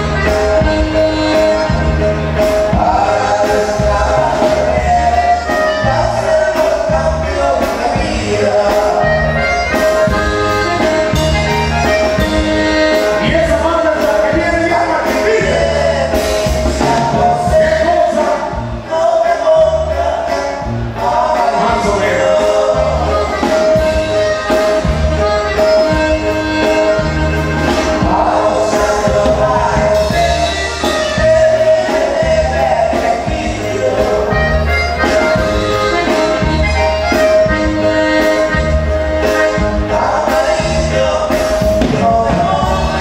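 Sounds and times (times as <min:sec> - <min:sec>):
steady drum beat: 0:00.0 - 0:19.9, 0:20.7 - 0:43.0
bass: 0:00.0 - 0:43.0
button accordion melody: 0:00.0 - 0:43.0.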